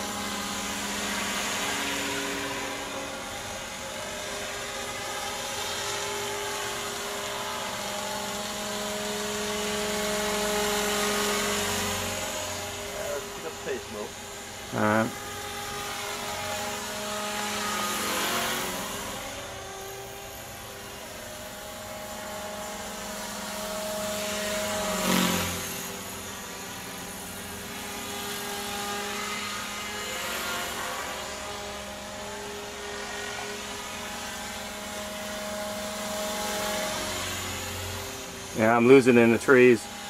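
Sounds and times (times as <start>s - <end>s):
rc helicopter whine: 0.0s - 40.0s.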